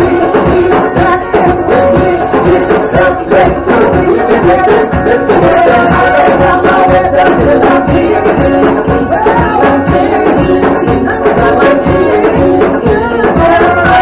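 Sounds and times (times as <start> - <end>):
upbeat dance music: 0.0 - 14.0.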